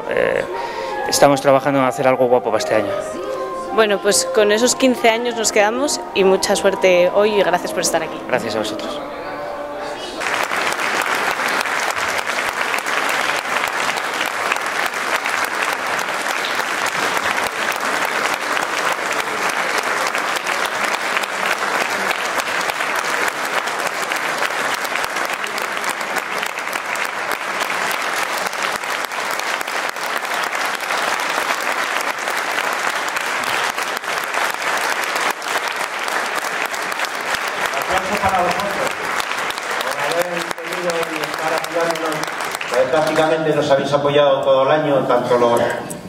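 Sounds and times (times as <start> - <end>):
crowd applauding: 2.5 - 44.1.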